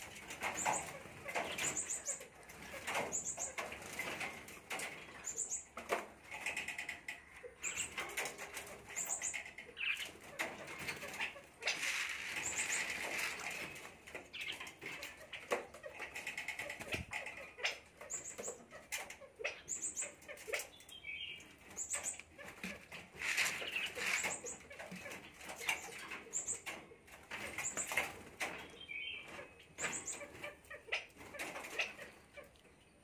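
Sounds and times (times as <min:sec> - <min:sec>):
harsh rattling bird calls: 0:00.1 - 0:32.4.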